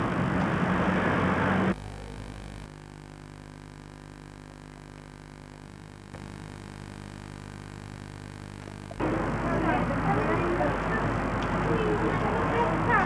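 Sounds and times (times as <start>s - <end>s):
electrical hum: 0.0s - 13.0s
faint tape hiss: 0.0s - 13.0s.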